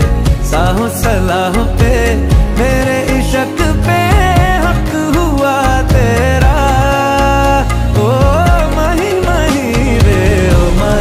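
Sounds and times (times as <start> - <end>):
film-style song with beat: 0.0 - 11.0.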